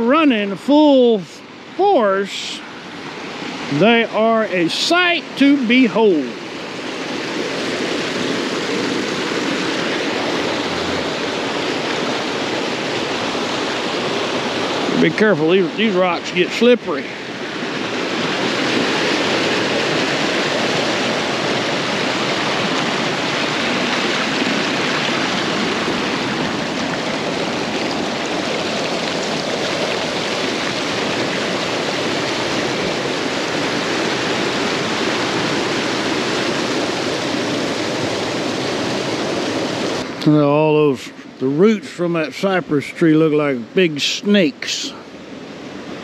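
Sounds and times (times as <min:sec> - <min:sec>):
water spilling over waterfall: 0:01.8 - 0:44.9.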